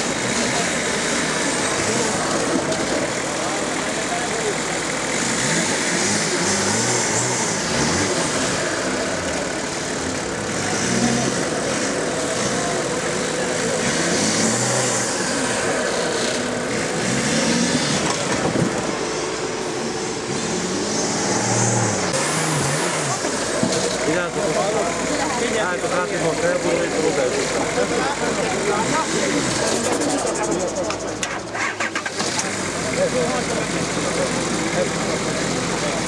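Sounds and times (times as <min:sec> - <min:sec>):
off-road engine revving: 0:00.0 - 0:36.0.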